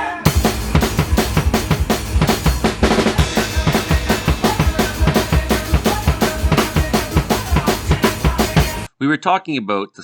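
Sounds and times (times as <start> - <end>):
fast rock drumming: 0.3 - 8.9.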